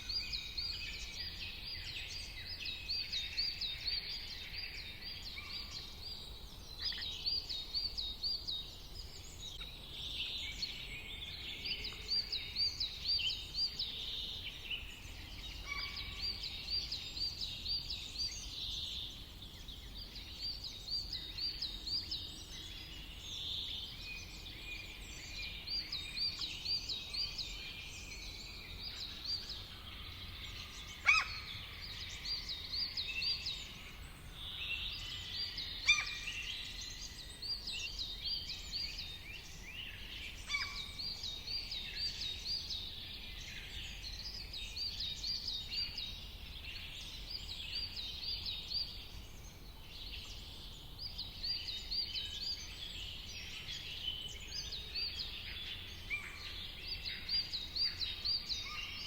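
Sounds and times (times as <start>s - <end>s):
faint background hiss: 0.0s - 59.0s.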